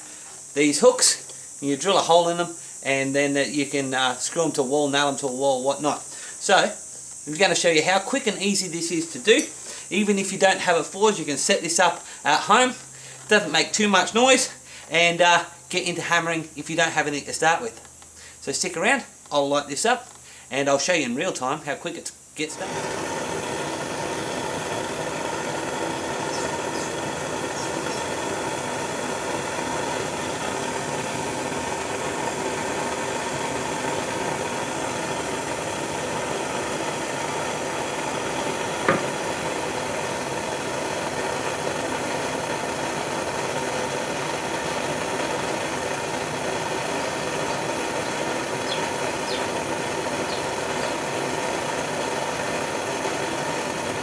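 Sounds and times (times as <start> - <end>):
propane torch hissing: 0.0 - 54.0.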